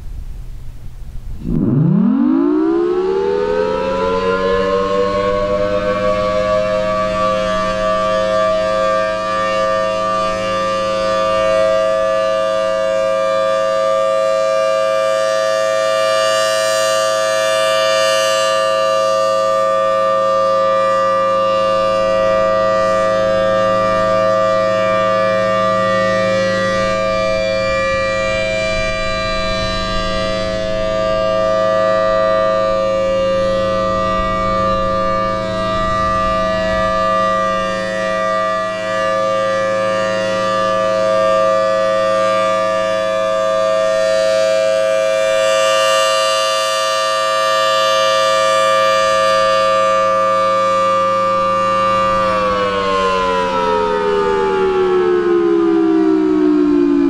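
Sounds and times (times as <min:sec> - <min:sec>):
outdoor warning siren: 0:00.0 - 0:57.0.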